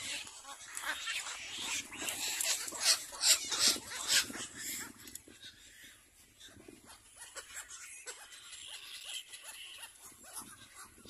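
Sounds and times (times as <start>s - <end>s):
bird chicks calling: 0.0s - 11.0s.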